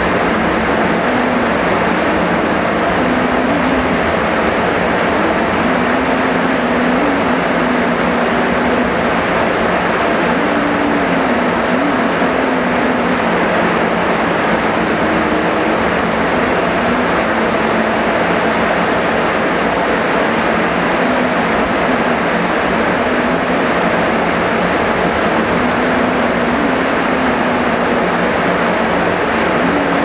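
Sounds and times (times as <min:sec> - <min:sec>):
faint low hum: 0:00.0 - 0:30.0
heavy rain falling: 0:00.0 - 0:30.0.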